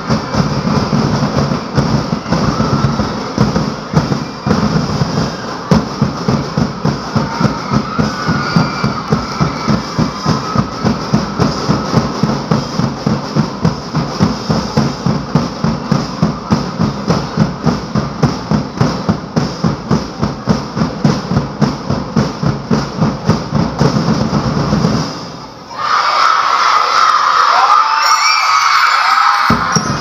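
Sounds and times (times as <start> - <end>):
drums playing a fast beat: 0.0 - 25.7, 29.3 - 30.0.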